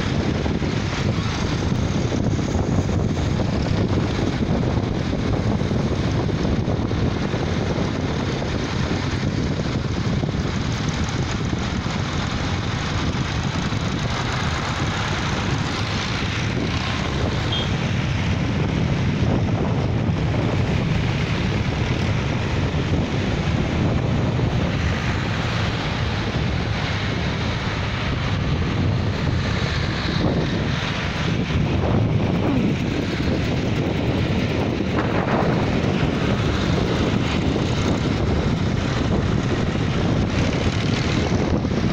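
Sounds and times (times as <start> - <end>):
tractor engines droning: 0.0 - 41.9.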